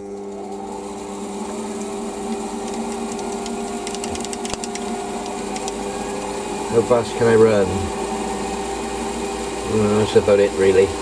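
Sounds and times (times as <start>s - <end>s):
lathe motor and gear hum: 0.0s - 11.0s.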